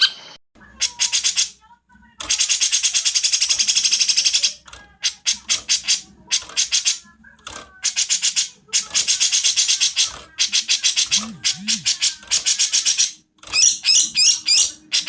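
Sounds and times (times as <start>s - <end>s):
songbird rasping song: 2.2s - 15.0s.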